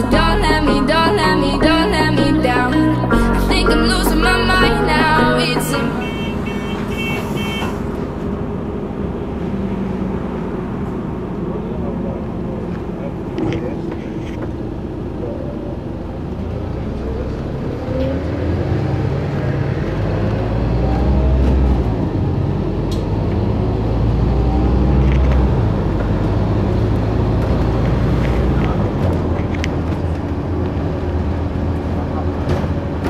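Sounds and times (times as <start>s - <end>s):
bus diesel engine: 0.0s - 33.0s.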